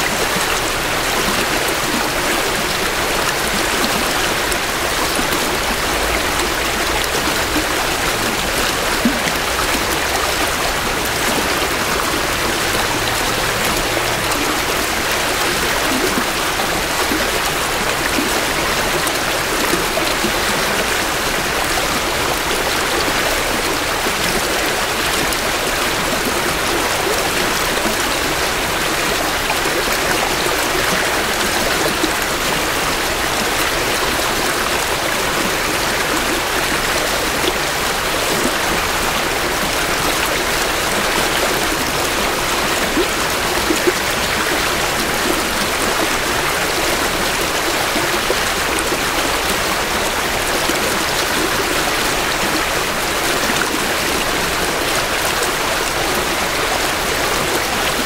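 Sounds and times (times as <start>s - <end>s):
creek burbling over rocks: 0.0s - 58.0s.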